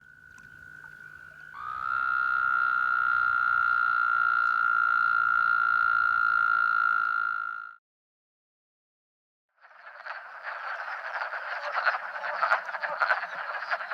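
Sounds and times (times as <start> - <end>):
faint toad trill: 0.0 - 7.8, 9.6 - 13.9
toad trilling: 0.0 - 7.8, 9.7 - 13.9.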